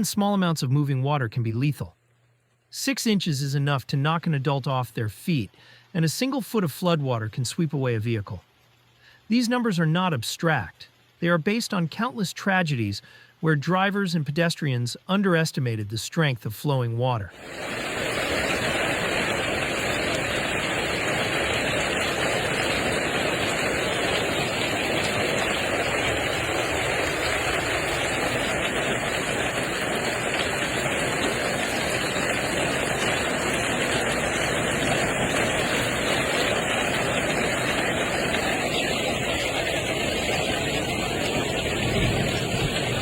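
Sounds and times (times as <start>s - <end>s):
water rushing: 0.0s - 1.8s, 9.3s - 13.0s, 13.6s - 43.0s.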